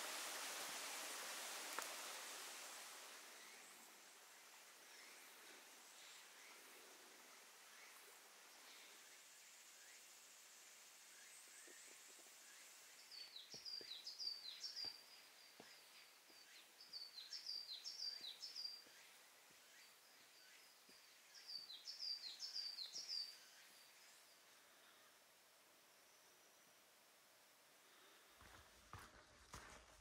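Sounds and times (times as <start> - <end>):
songbird chirping: 1.7 - 27.0.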